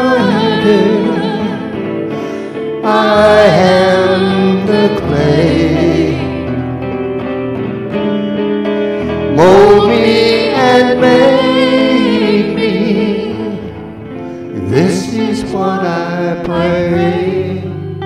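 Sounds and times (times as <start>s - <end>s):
person singing worship song: 0.0s - 6.7s, 9.0s - 18.0s
electric guitar accompaniment: 0.0s - 18.0s.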